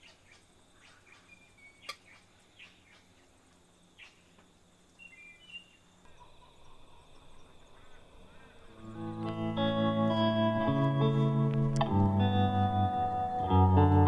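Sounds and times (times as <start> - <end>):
faint birdsong chirps: 0.0 - 11.4.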